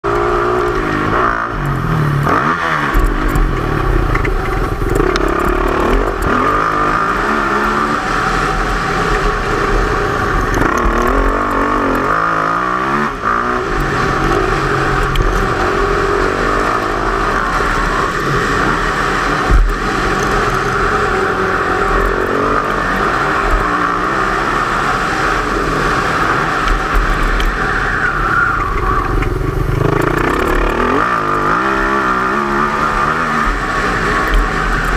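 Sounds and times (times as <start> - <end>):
motocross engine revving: 0.0 - 34.9.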